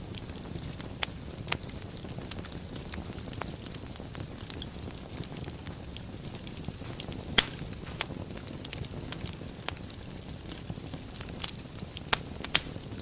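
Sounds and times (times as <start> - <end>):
fire crackling and popping: 0.0 - 13.0
fire flames rumbling and hissing: 0.0 - 13.0.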